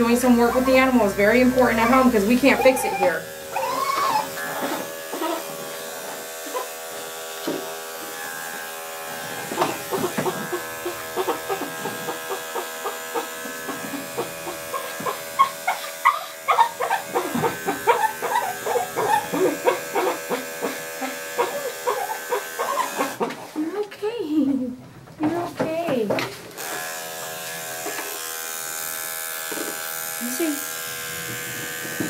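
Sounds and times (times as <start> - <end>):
electric clipper humming: 0.0 - 23.2, 26.6 - 32.0.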